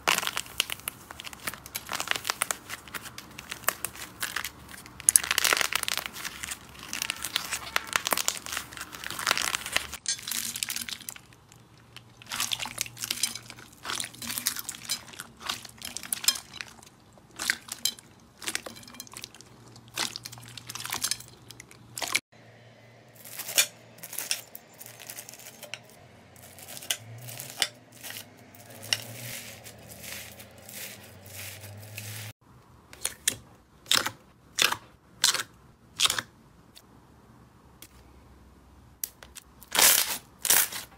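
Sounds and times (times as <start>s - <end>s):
crunchy slime crackling: 0.0s - 22.2s, 23.1s - 32.4s, 39.0s - 40.9s.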